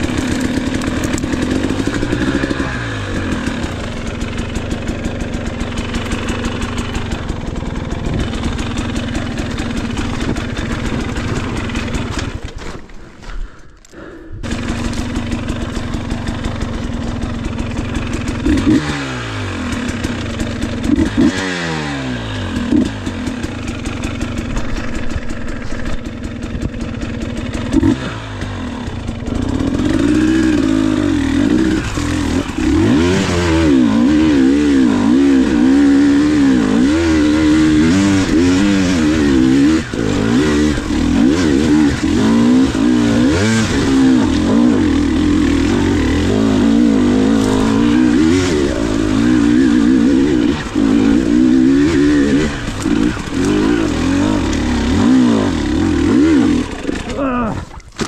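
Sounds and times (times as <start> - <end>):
dirt bike engine revving: 0.0 - 12.8, 13.4 - 58.0.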